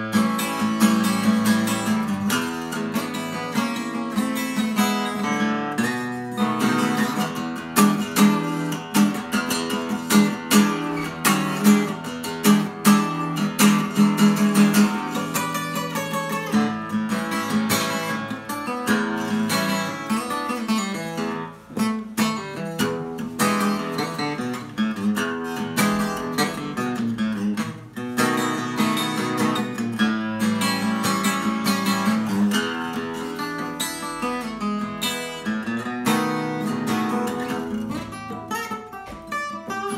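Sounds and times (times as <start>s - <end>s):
acoustic guitar blues: 0.0s - 39.9s.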